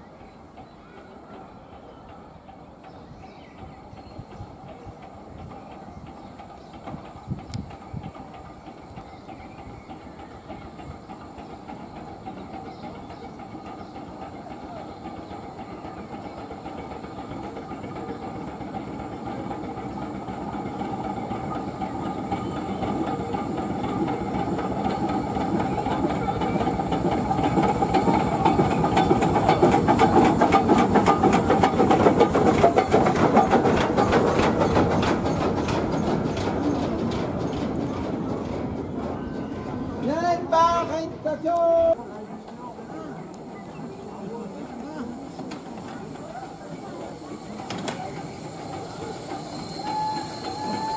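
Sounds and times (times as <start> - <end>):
train rumbling hiss: 0.0 - 50.9
wheels clicking over rail joints: 0.1 - 40.5, 41.5 - 50.9.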